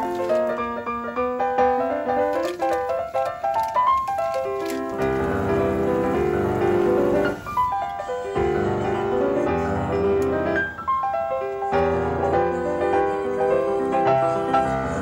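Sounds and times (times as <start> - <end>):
piano background music: 0.0 - 15.0.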